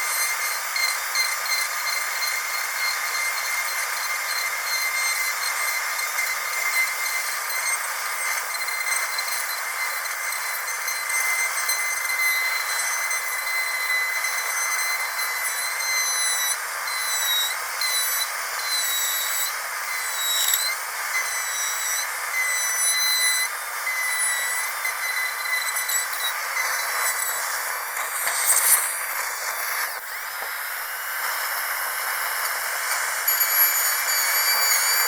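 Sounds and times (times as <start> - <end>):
dentist's drill whining: 0.0 - 35.0.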